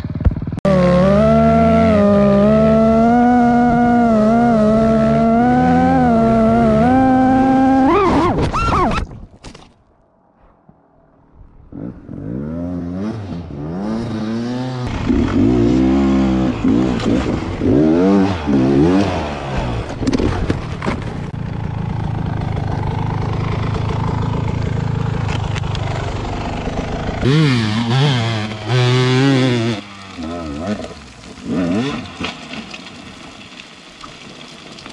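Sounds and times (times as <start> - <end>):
dirt bike engines revving: 0.0 - 8.3, 11.7 - 20.5, 21.5 - 32.5.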